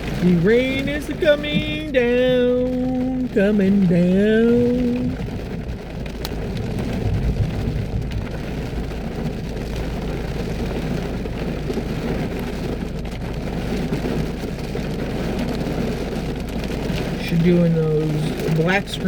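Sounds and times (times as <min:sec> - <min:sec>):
heavy rain: 0:00.0 - 0:19.0
low rumble: 0:00.0 - 0:19.0.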